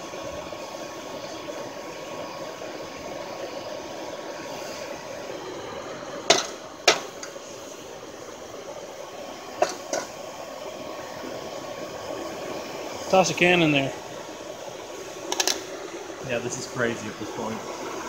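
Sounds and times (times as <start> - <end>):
blower running: 0.0 - 18.0.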